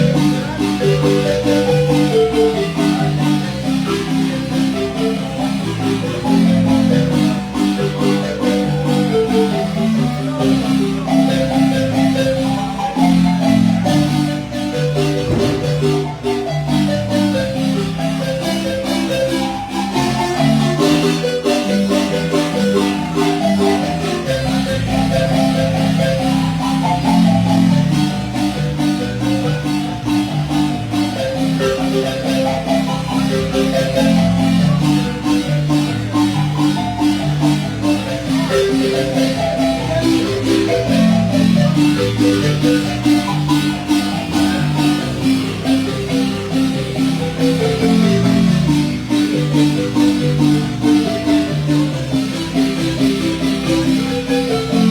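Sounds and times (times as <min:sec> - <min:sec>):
marimba playing: 0:00.0 - 0:54.9.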